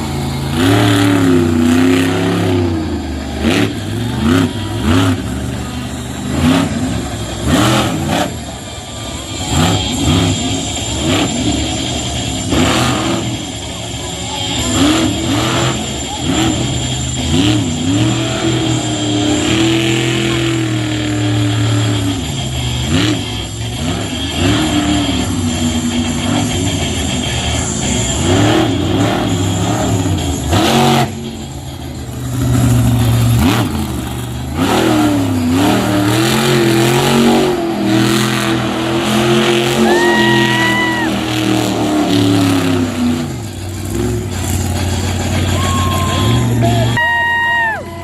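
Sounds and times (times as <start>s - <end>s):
truck engine revving hard: 0.0s - 48.0s.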